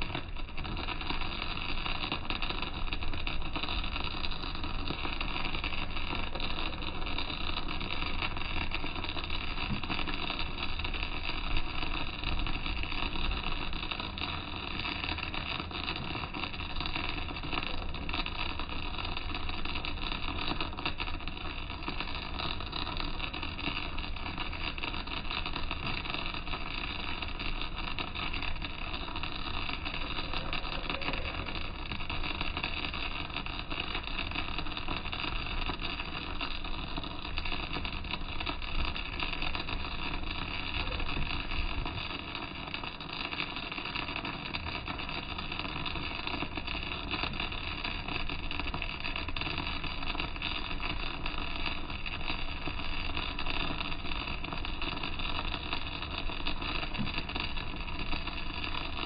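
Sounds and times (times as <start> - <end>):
welding arc crackle and hiss: 0.0 - 59.0
welding arc pop: 0.0 - 59.0.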